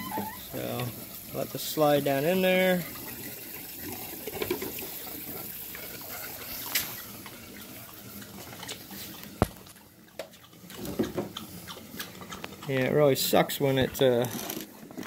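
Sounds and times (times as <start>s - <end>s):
water churning and fizzing: 0.0s - 15.0s.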